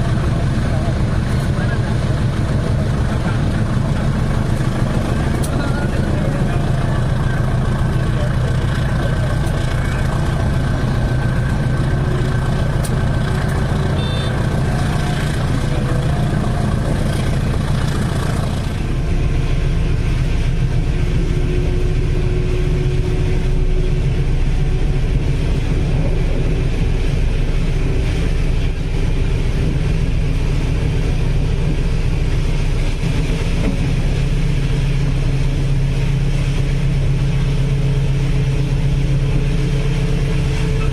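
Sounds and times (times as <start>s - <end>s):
passenger train rumbling: 0.0s - 40.9s.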